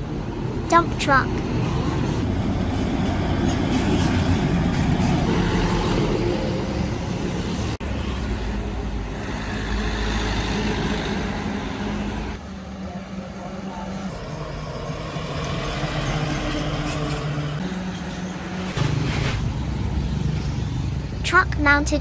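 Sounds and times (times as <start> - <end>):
dump truck engine humming: 0.0 - 22.0.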